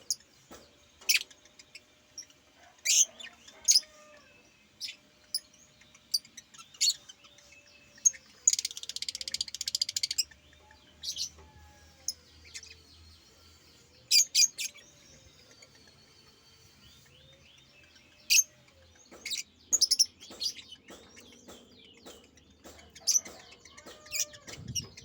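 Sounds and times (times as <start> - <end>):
pet bird chirping: 0.0 - 25.0.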